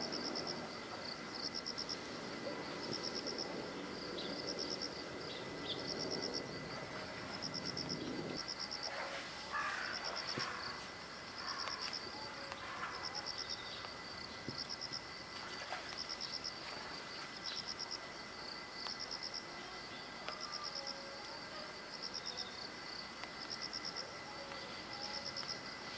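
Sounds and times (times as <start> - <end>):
insects chirping trills: 0.0 - 25.9
outdoor hiss: 0.0 - 25.9.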